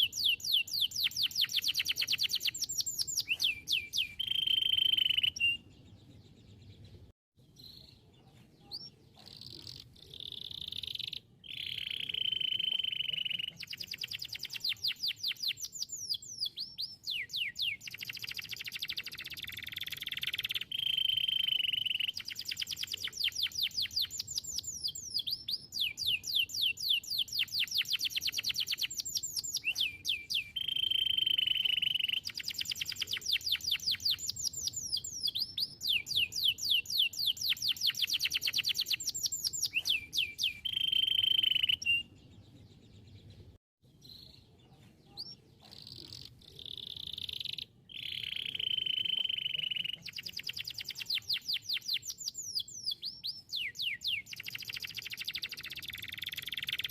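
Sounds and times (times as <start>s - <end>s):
canary singing trills and whistles: 0.0s - 56.9s.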